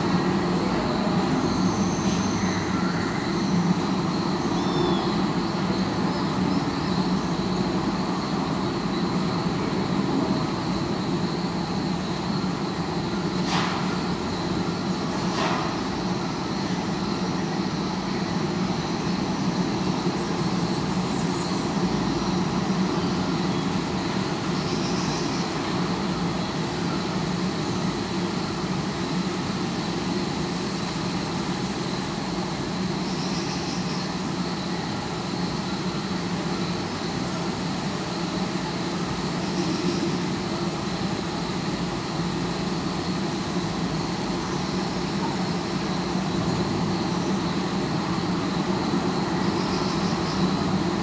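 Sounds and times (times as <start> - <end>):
low rumble of city traffic: 0.0 - 51.0.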